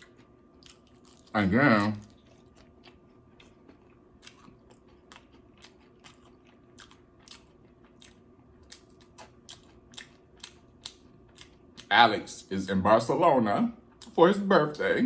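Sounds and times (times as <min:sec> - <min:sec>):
person chewing food: 0:00.0 - 0:12.0, 0:13.8 - 0:14.2.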